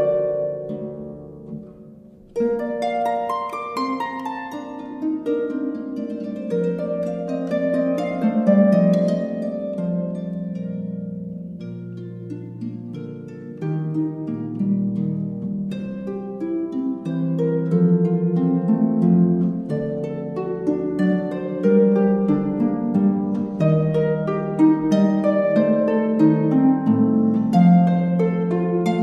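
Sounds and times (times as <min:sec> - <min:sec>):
gentle plucked-string music: 0:00.0 - 0:29.0.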